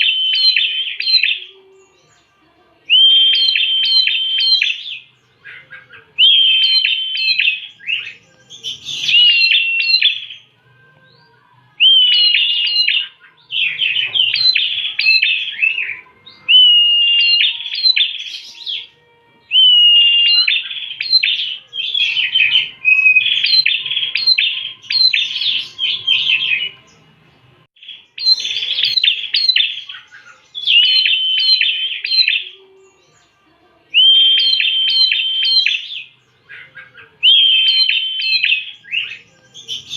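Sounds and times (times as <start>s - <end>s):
bird song with whistle and chipping notes: 0.0s - 39.9s.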